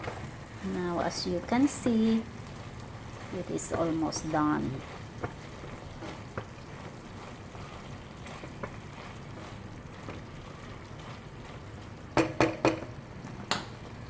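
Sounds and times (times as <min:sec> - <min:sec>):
stir-fry simmering in pan: 0:00.0 - 0:14.0.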